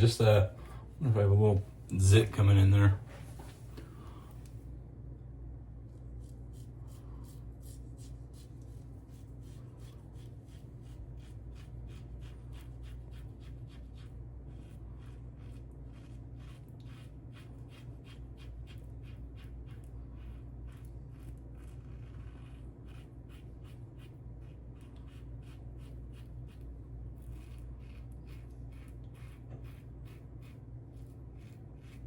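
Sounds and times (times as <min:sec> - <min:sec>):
steady low hum: 0:00.0 - 0:32.0
razor scraping stubble: 0:06.1 - 0:32.0.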